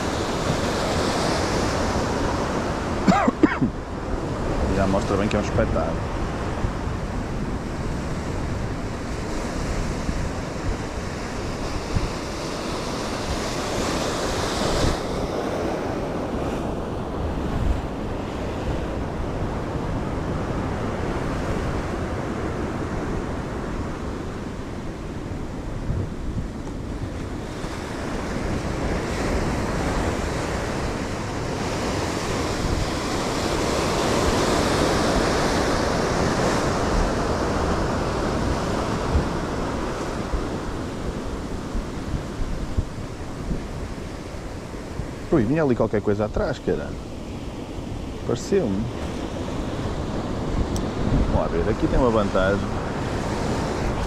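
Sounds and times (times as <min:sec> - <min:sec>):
sea surf on rocky shore: 0:00.0 - 0:54.0
wind buffeting microphone: 0:00.0 - 0:54.0.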